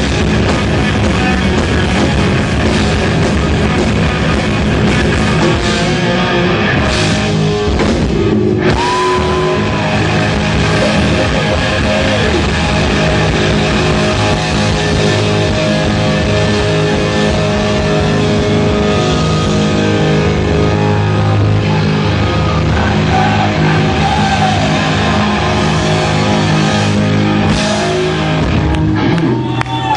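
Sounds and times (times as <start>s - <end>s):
distorted electric guitar bends: 0.0s - 29.9s
heavy metal band playing: 0.0s - 29.9s.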